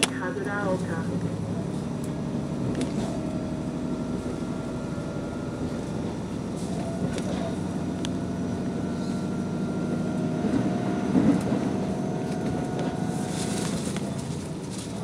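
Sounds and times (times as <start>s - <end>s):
diesel railcar running: 0.0s - 15.0s.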